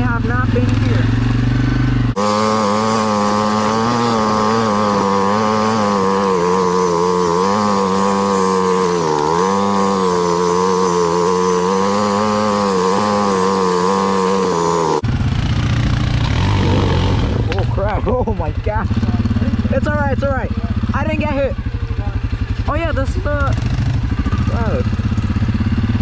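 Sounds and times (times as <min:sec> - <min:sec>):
quad bike engine buzzing: 0:00.0 - 0:26.0.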